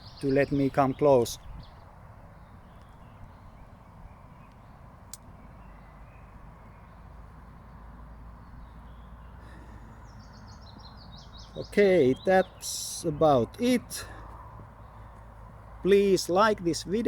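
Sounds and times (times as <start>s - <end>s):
faint birds calling: 0.0s - 17.0s.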